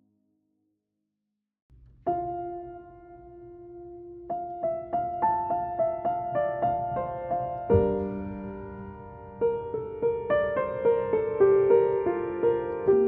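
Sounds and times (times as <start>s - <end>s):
piano notes: 1.8s - 13.0s.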